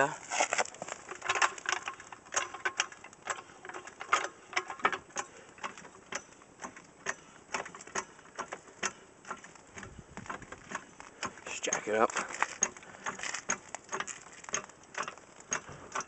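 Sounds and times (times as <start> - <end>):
car jack clicking: 1.2 - 16.0.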